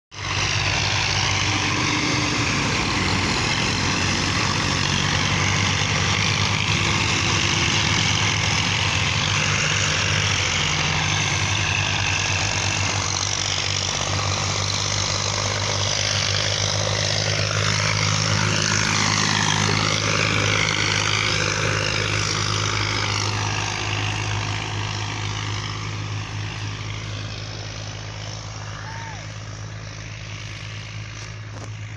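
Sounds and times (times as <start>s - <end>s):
tractor diesel engines running: 0.1s - 31.9s.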